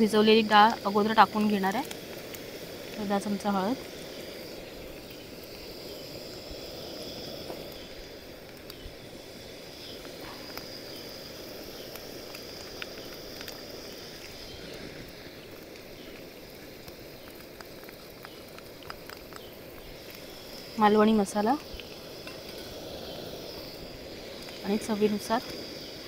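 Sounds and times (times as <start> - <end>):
onion frying in hot oil: 0.0 - 26.0
small crackles and clicks: 0.0 - 26.0.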